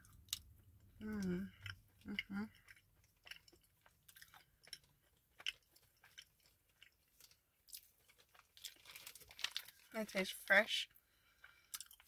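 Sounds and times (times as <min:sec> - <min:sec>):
crisp chewing crunches: 0:00.0 - 0:10.5, 0:11.4 - 0:12.0.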